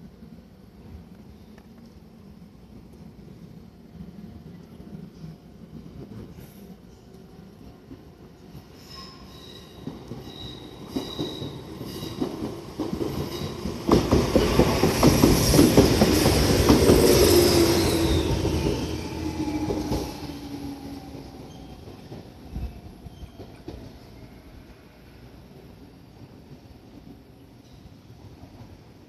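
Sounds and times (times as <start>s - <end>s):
electric train passing: 1.9s - 29.0s.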